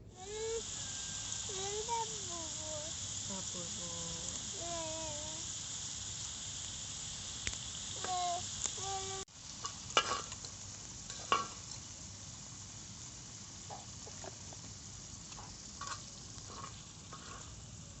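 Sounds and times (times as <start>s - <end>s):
food sizzling in frying pan: 0.0s - 18.0s.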